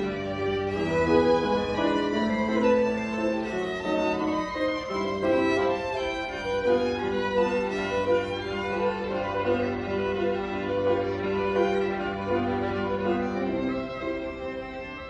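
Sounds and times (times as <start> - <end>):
grand piano: 0.0 - 15.0.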